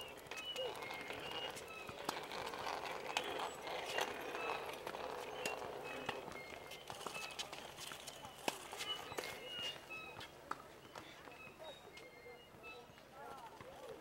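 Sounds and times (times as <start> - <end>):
high shoe squeaks: 0.3 - 13.1.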